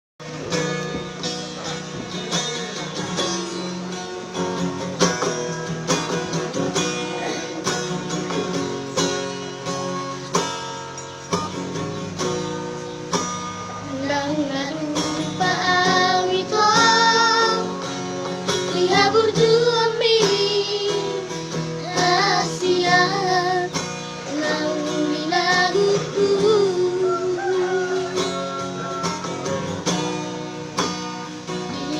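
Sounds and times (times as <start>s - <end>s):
acoustic guitar picking and strumming: 0.2s - 31.9s.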